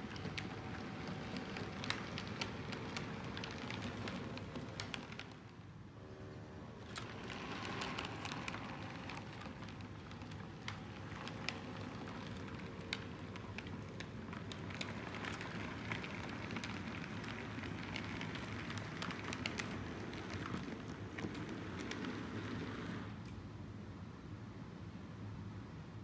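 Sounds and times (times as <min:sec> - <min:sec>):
model train rumbling: 0:00.0 - 0:05.4, 0:06.8 - 0:23.2
wheels clicking over rail joints: 0:00.0 - 0:05.5, 0:06.8 - 0:23.3.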